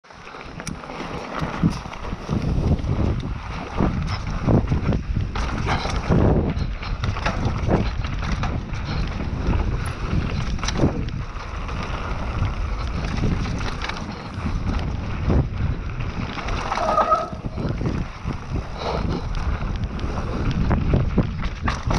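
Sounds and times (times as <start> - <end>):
tyres rolling on dirt: 0.0 - 21.9
wind rushing over microphone: 0.2 - 21.9
bike knocks and rattles: 0.4 - 21.9.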